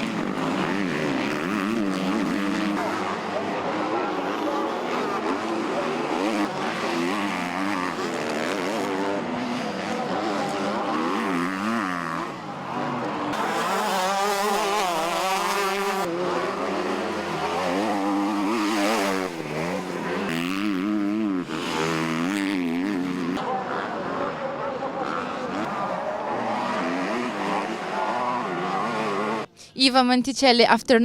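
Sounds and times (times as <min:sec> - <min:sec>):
motocross bike engines revving: 0:00.0 - 0:29.6.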